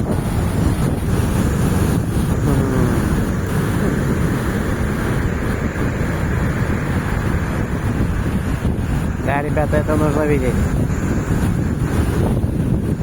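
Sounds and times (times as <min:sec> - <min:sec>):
gusty wind on microphone: 0:00.0 - 0:13.0
surf breaking on beach: 0:00.0 - 0:13.0.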